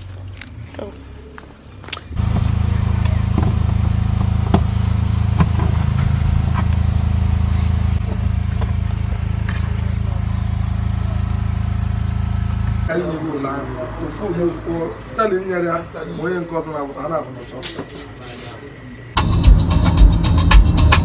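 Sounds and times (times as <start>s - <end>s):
car engine and road hum: 0.0s - 15.0s, 19.2s - 21.0s.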